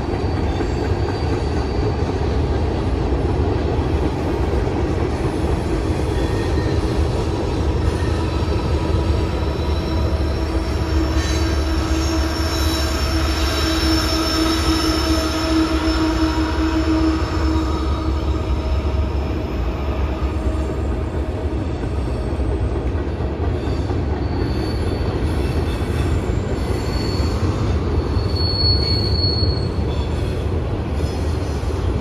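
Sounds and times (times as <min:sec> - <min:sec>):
freight train wheels rumbling: 0:00.0 - 0:32.0
train wheel squeal: 0:00.0 - 0:32.0.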